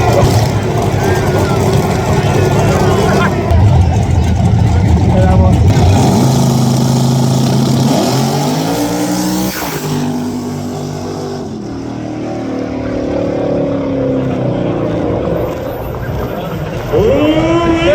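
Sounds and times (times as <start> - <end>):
vehicle engine accelerating: 0.0 - 17.9.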